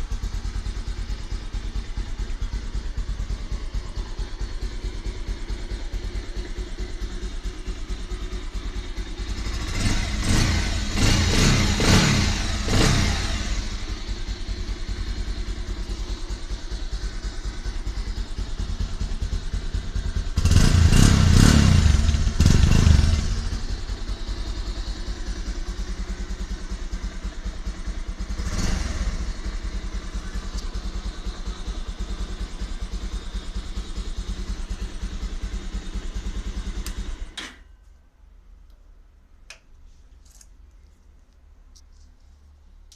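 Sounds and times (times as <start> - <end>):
motorcycle engine idling and revving: 0.0 - 37.7.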